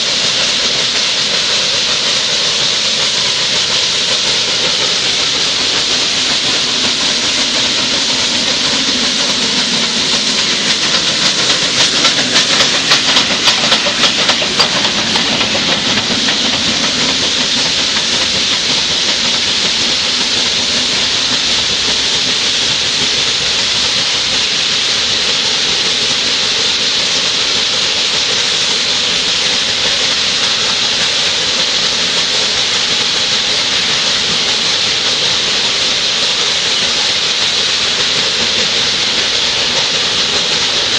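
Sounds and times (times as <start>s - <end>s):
hiss of escaping steam: 0.0s - 40.9s
steam locomotive rhythmic beating: 0.0s - 40.9s.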